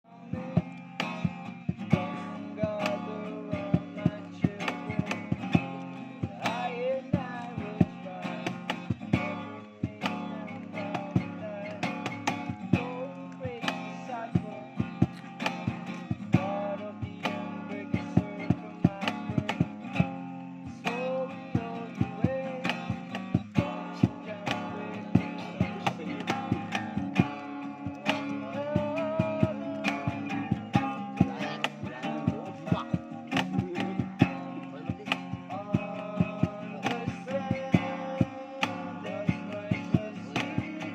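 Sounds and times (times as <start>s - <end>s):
guitar chords strummed: 0.1s - 40.9s.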